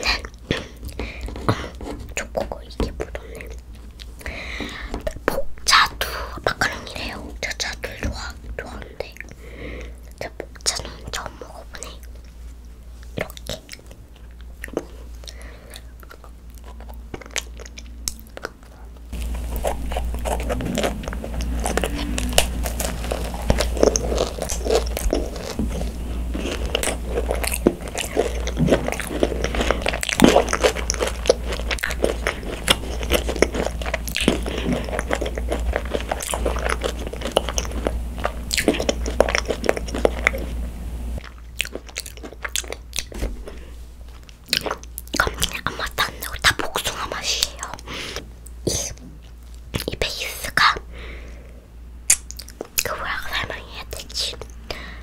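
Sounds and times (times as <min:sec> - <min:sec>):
biting and chewing macaron: 0:00.0 - 0:50.9, 0:52.0 - 0:55.0.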